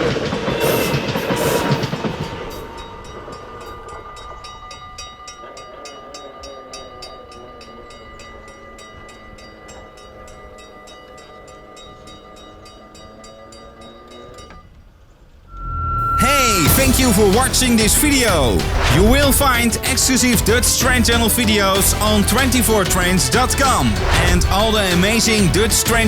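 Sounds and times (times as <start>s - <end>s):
train passing: 0.0s - 13.0s, 15.5s - 26.0s
level crossing warning bell: 2.7s - 14.8s, 15.5s - 26.0s.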